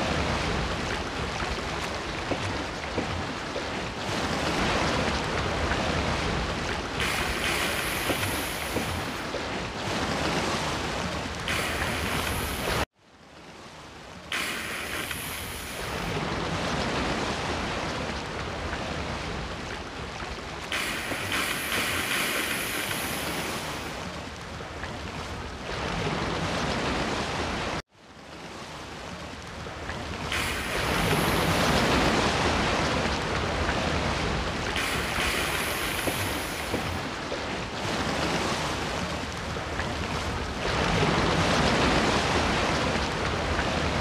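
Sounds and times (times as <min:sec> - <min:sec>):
sea waves washing in: 0:00.0 - 0:44.0.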